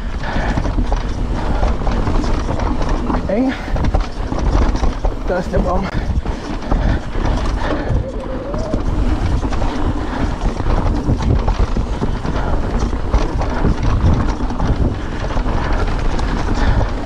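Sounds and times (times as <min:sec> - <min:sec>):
bike rattling and knocking: 0:00.0 - 0:17.0
tyres rumbling on dirt trail: 0:00.0 - 0:17.0
wind over microphone: 0:00.0 - 0:17.0.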